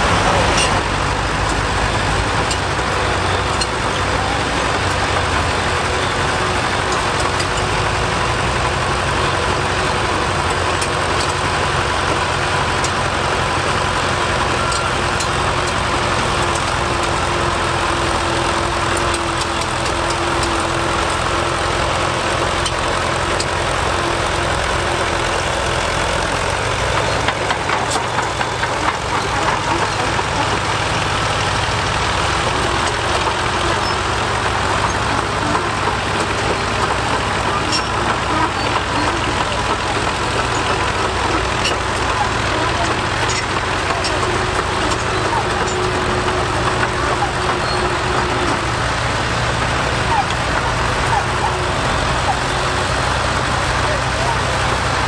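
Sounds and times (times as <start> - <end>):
bulldozer engine running: 0.0 - 55.0.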